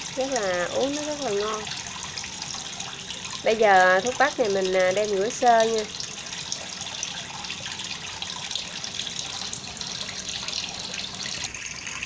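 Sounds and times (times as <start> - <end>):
tap water running into sink: 0.0 - 12.0
water splashing through colander: 0.0 - 12.0.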